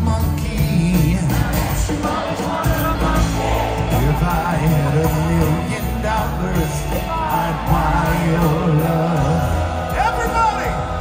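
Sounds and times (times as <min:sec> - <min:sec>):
bass line: 0:00.0 - 0:11.0
live rock band playing: 0:00.0 - 0:11.0
person singing: 0:00.0 - 0:11.0.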